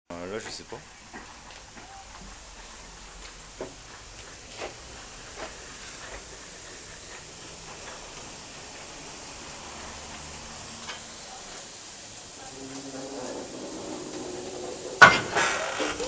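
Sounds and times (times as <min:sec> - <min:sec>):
steam locomotive hissing: 0:00.1 - 0:16.0.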